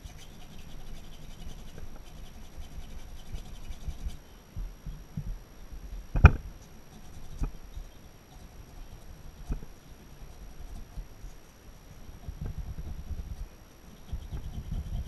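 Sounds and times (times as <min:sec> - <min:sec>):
faint rapid scratching: 0:00.0 - 0:05.2, 0:06.2 - 0:15.0.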